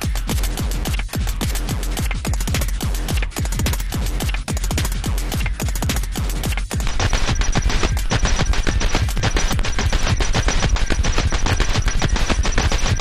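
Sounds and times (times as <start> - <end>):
fast techno music: 0.0 - 13.0
rapid rattle of sharp hits: 0.0 - 13.0
steady deep bass: 0.0 - 13.0.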